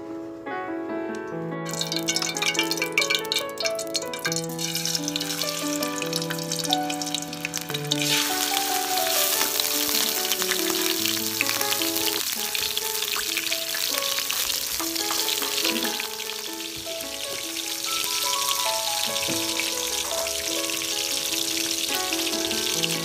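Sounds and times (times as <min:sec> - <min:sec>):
background music with held notes: 0:00.0 - 0:23.0
squid deep-frying in oil: 0:01.7 - 0:23.0.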